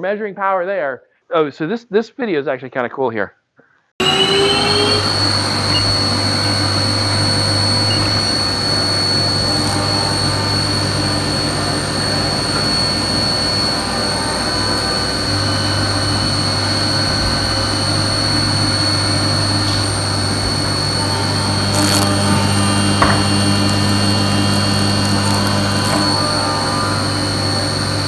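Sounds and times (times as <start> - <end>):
cutter milling metal: 4.0 - 28.0
milling machine spindle whine: 4.0 - 28.0.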